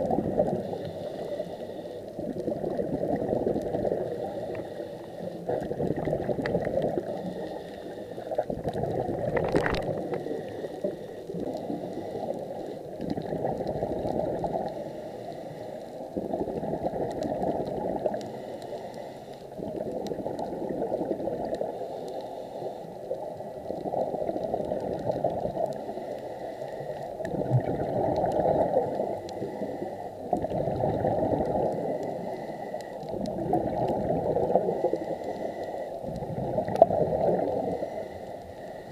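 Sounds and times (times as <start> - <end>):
muffled underwater bubbling: 0.0 - 38.9.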